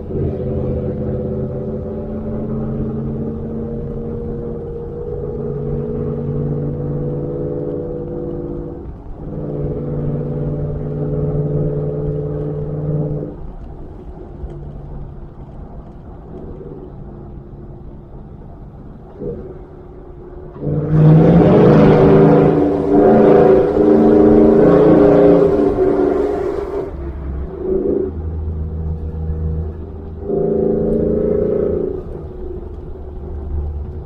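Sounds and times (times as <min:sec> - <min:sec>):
pickup truck exhaust note: 0:00.0 - 0:34.0.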